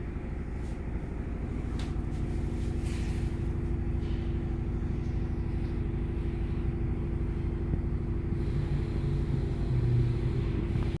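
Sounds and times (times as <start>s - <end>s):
droning hum: 0.0s - 11.0s
low mechanical rumble: 0.0s - 11.0s.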